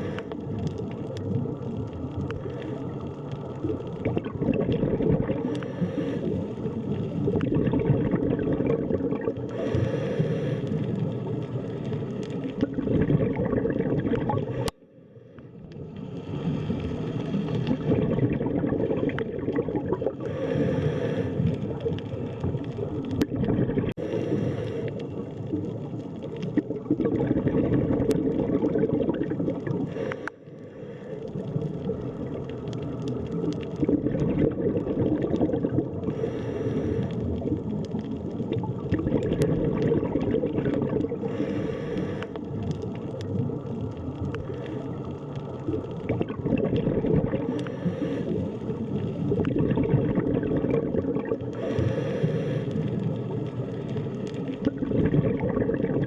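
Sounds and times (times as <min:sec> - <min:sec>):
underwater rumble of moving water: 0:00.0 - 0:56.0
water bubbling and gurgling: 0:00.0 - 0:56.0.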